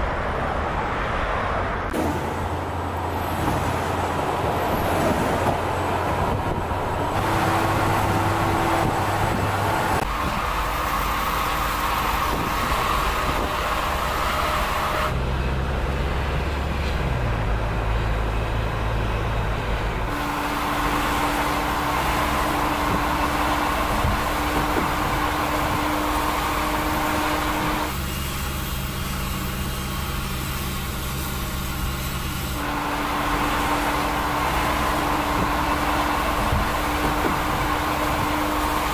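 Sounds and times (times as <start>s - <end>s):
truck tyre and road noise: 0.0s - 38.9s.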